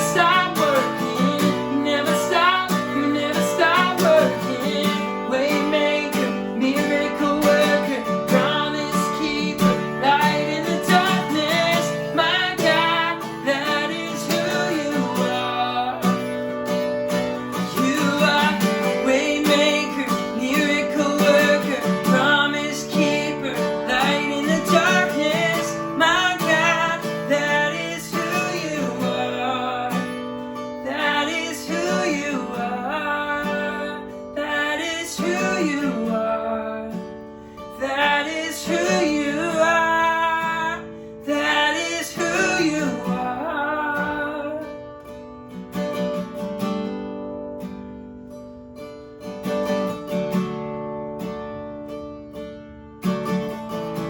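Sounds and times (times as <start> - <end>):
strummed acoustic guitar: 0.0 - 54.0.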